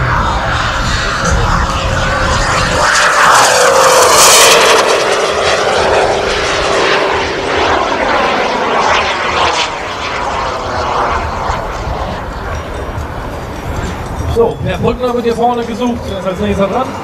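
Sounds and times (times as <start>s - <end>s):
jet rush: 0.0s - 17.0s
jet turbine whine: 0.0s - 17.0s.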